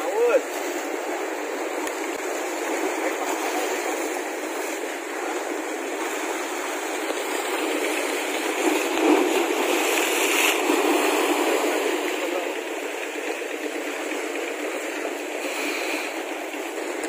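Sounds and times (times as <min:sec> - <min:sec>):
sea surf washing over rocks: 0:00.0 - 0:17.0.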